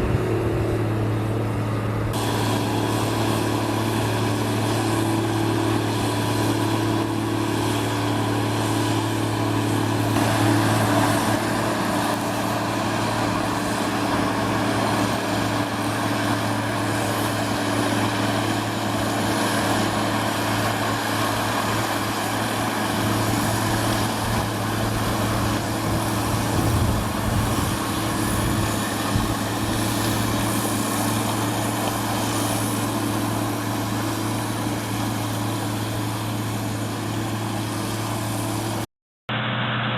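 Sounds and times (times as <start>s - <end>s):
snow-clearing machine engine: 0.0s - 39.9s.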